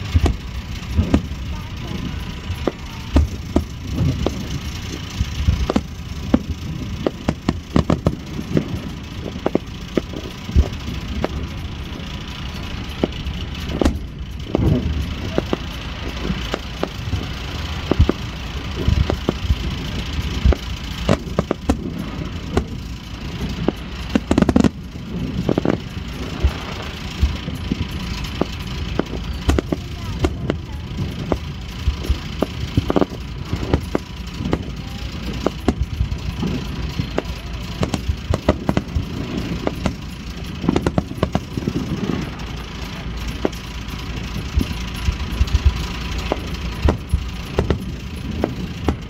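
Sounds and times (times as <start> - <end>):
fireworks bangs and crackles: 0.0 - 49.0
low rumble: 0.0 - 49.0.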